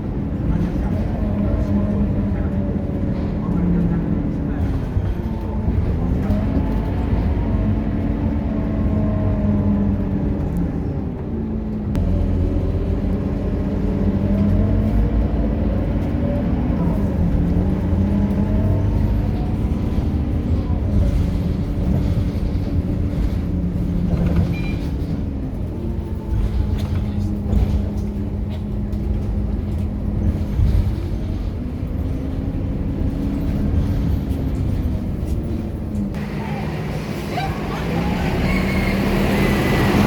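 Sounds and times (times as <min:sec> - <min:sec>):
bus diesel engine running: 0:00.0 - 0:40.0
road noise: 0:00.0 - 0:40.0.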